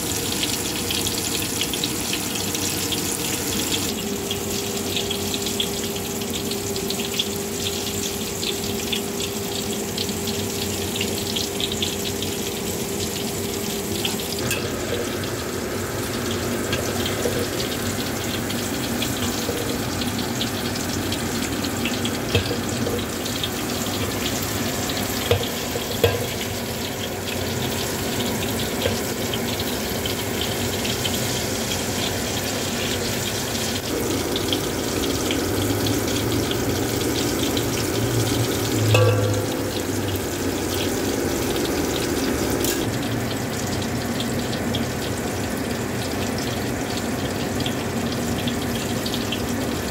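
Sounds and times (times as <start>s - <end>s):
hot oil sizzling and popping: 0.0s - 49.9s.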